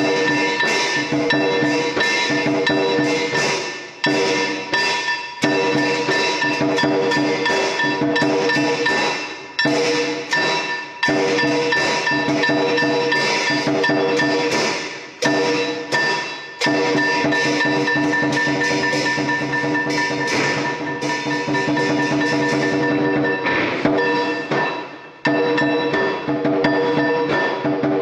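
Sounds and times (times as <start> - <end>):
percussion music: 0.0 - 28.0.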